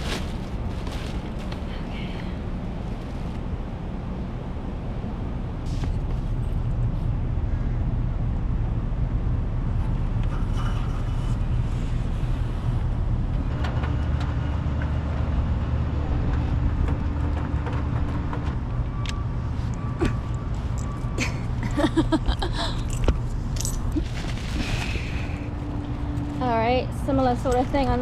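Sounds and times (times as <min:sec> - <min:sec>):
hvac units humming: 0:00.0 - 0:28.0.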